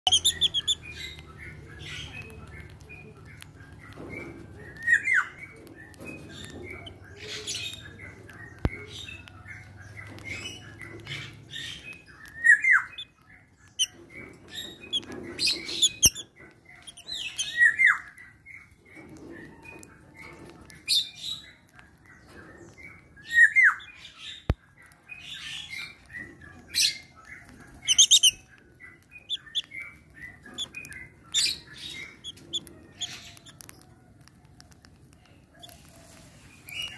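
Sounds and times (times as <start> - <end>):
birds chirping and squawking: 0.0 - 36.9.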